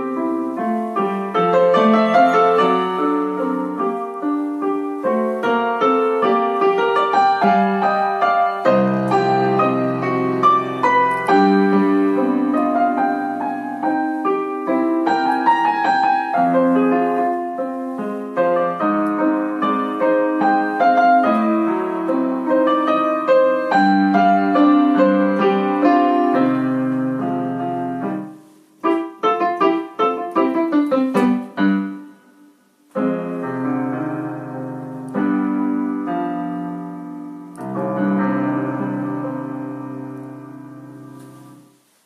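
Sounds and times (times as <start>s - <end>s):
slow solo piano piece: 0.0s - 42.0s.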